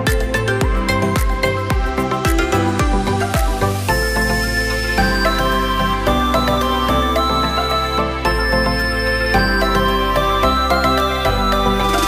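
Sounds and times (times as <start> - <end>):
mellow instrumental music: 0.0 - 12.0.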